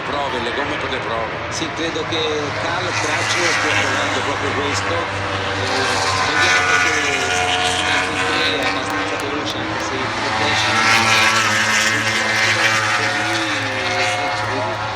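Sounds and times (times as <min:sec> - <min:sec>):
racing motorcycles passing: 0:00.0 - 0:14.9.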